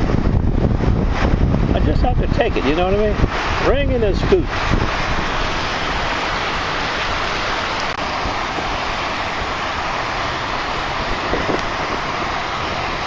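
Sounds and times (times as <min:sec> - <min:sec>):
surf breaking: 0:00.0 - 0:13.0
wind on microphone: 0:00.0 - 0:13.0.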